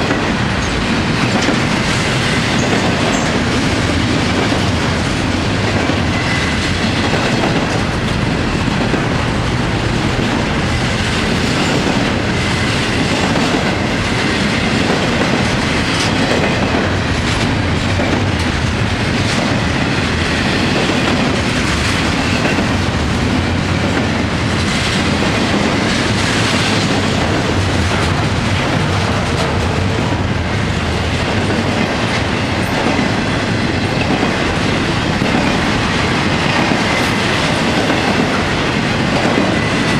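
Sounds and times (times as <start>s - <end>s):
clickety-clack over rail joints: 0.0s - 39.9s
steel wheels rumbling on rail: 0.0s - 39.9s.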